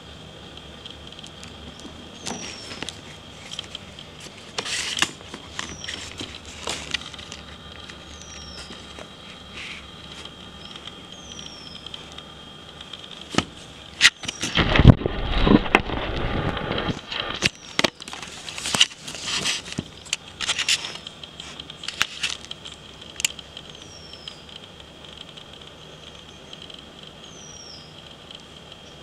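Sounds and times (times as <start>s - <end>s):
crackling and rustling: 0.0s - 27.2s.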